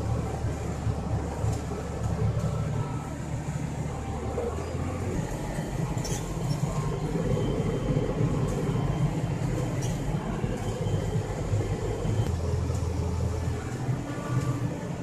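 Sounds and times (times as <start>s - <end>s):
diesel engine drone: 0.0s - 15.0s.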